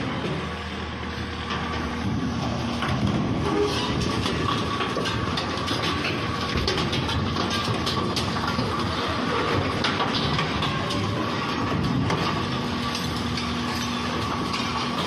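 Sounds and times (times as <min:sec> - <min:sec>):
diesel engine under load: 0:00.0 - 0:15.0
metal clattering and scraping: 0:01.4 - 0:15.0.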